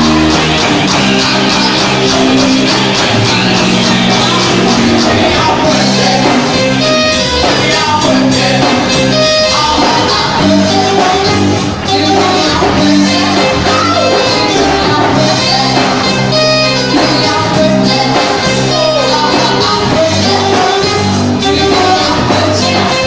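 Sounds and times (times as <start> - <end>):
drum kit: 0.0 - 23.0
electric guitar: 0.0 - 23.0
keyboard: 0.0 - 23.0.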